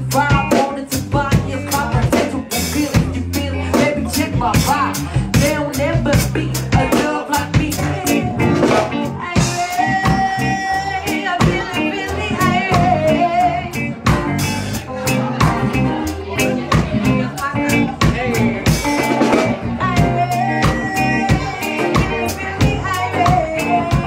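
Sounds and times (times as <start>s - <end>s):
drum kit: 0.0s - 24.0s
guitar: 0.0s - 24.0s
person singing: 0.0s - 24.0s
soul band playing: 0.0s - 24.0s.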